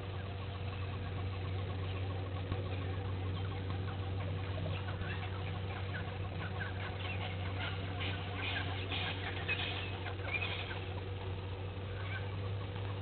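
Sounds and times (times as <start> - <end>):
steady low hum: 0.0 - 13.0
wild birds chattering: 0.0 - 13.0.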